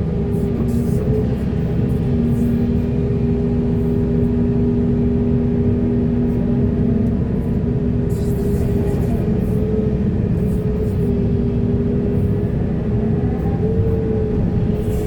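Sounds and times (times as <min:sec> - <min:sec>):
constant hum: 0:00.0 - 0:15.0
diesel machinery engine rumble: 0:00.0 - 0:15.0.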